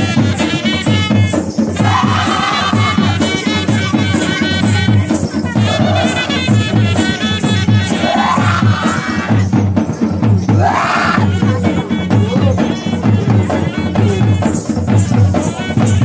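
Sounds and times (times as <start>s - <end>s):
folk music: 0.0s - 16.0s
jingling percussion: 0.0s - 16.0s
steady drum beat: 0.0s - 16.0s.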